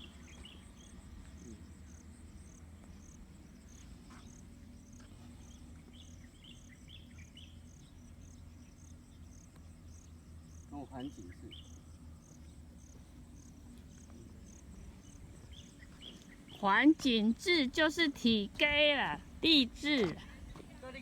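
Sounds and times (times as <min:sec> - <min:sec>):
lower insect chirps: 0:00.0 - 0:18.4
insects chirping: 0:00.0 - 0:21.0.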